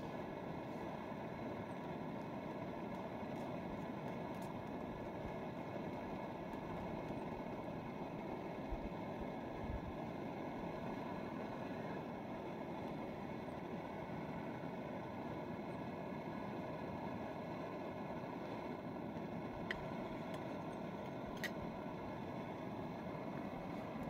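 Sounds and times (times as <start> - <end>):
gas stove burning: 0.0 - 24.0.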